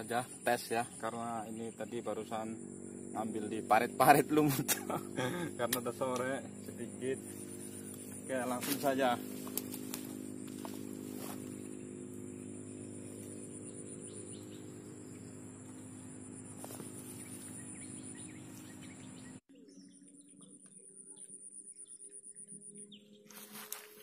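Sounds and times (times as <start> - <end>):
high-pitched insect buzz: 0.0 - 19.2, 20.5 - 24.0
bird chirps: 0.0 - 24.0
low steady hum: 0.0 - 24.0.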